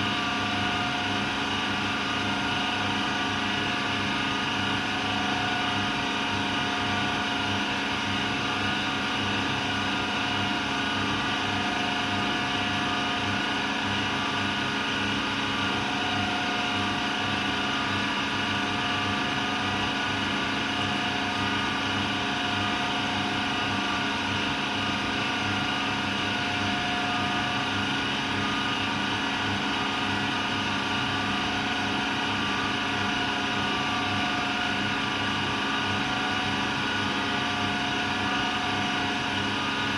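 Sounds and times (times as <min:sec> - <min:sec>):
washer-dryer motor and fan hum: 0:00.0 - 0:39.9.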